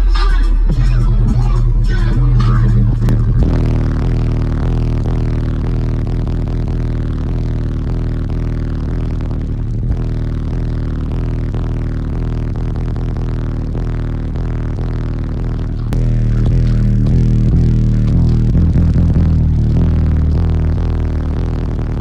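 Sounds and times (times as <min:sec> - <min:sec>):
distorted deep bass note: 0:00.0 - 0:22.0
hip-hop track: 0:00.0 - 0:22.0.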